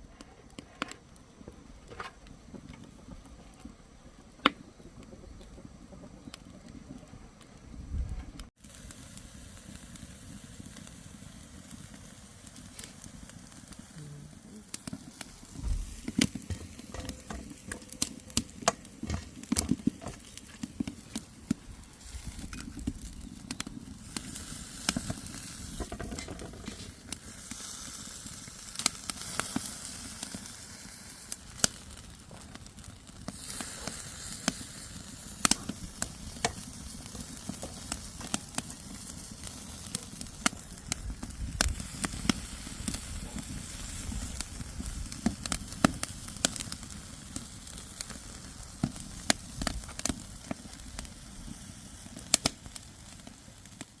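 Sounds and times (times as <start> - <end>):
sharp pops and crackles: 0.0 - 54.0
food sizzling in a pan: 8.5 - 32.4, 33.0 - 53.0.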